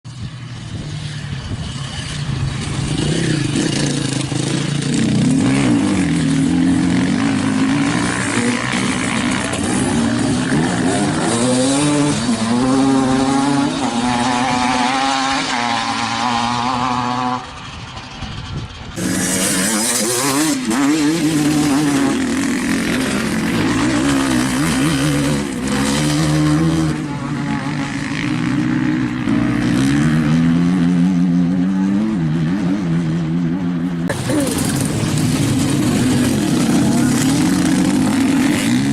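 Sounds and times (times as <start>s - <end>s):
off-road vehicle engines revving: 0.1s - 38.9s.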